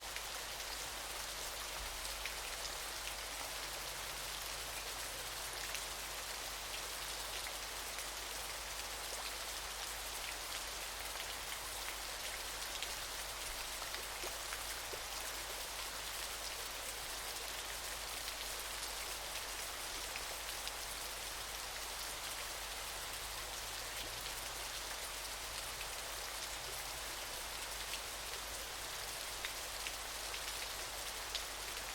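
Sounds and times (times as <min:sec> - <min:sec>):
steady rain: 0:00.0 - 0:31.9.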